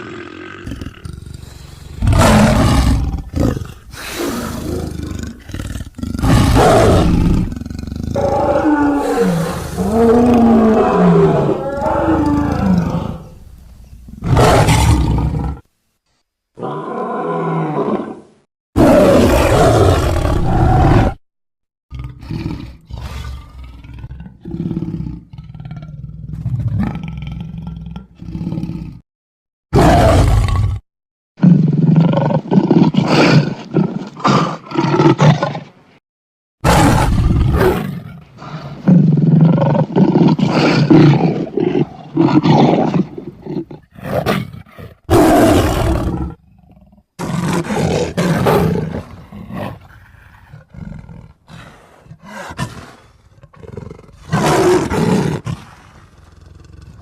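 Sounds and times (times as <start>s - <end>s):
big cat roars and growls: 0.0s - 13.4s, 14.1s - 15.7s, 16.6s - 21.2s, 21.9s - 29.0s, 29.7s - 30.8s, 31.4s - 35.8s, 36.6s - 57.0s.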